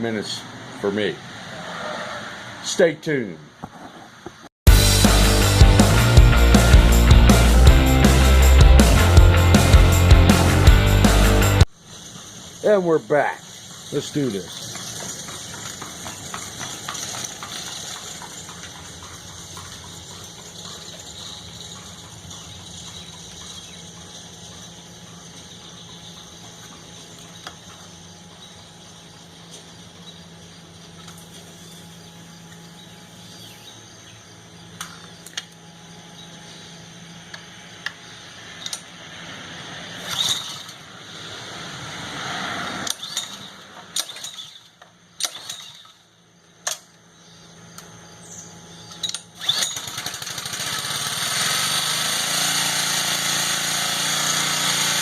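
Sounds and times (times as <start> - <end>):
small engine running: 4.7 - 34.6, 36.2 - 46.1, 48.1 - 55.0.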